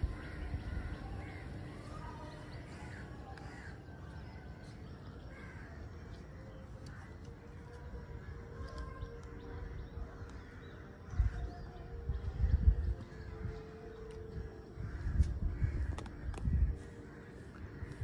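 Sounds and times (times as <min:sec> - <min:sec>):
birds calling: 0:00.0 - 0:18.0
low outdoor background rumble: 0:00.0 - 0:18.0.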